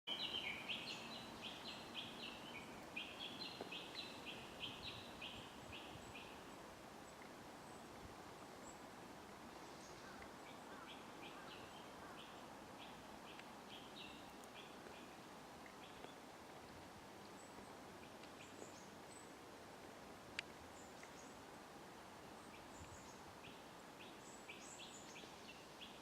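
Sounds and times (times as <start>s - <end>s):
faint outdoor hiss: 0.1s - 26.0s.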